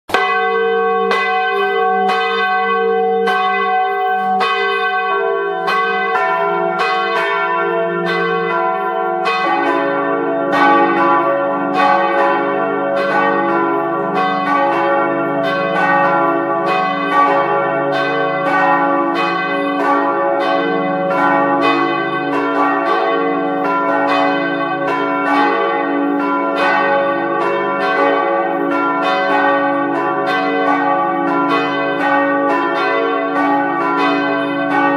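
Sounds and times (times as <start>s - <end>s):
church bells pealing: 0.1s - 34.9s
lower-pitched bells: 0.1s - 34.9s.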